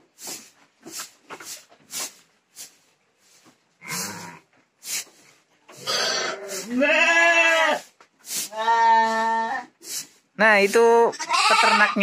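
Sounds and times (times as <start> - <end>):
sheep sniffing: 0.1 - 6.8, 7.5 - 11.0.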